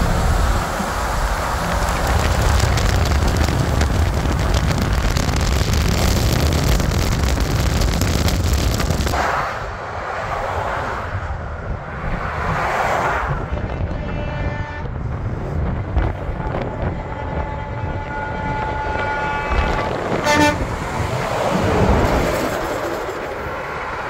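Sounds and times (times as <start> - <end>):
distant truck rumble: 0.0 - 10.1, 13.3 - 24.0.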